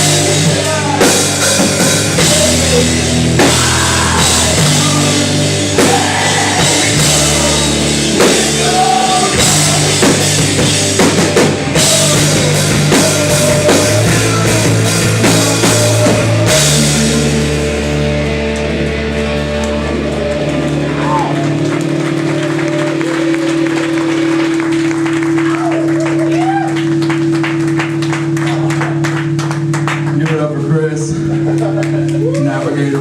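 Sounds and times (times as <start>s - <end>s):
drum kit beat: 0.0s - 32.9s
live rock band playing: 0.0s - 33.0s.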